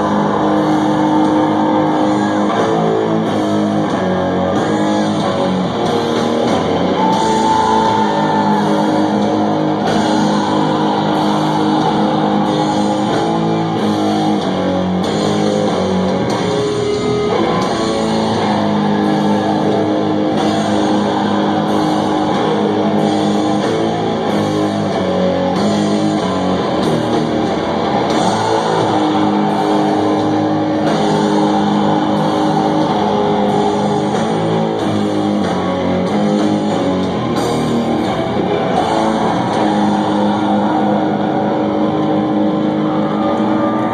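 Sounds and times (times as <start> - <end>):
metal band electric guitars: 0.0 - 43.9.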